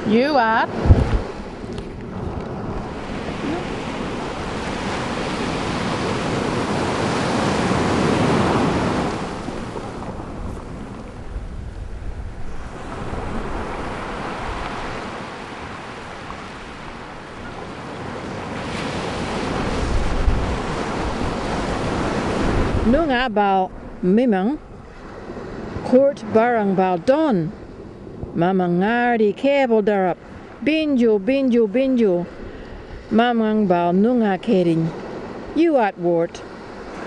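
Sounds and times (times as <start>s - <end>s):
ocean waves washing: 0.0s - 37.0s.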